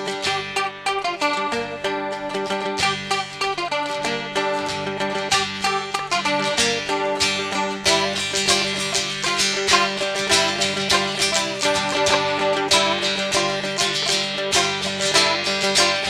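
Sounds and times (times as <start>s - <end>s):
acoustic string band playing: 0.0s - 16.0s.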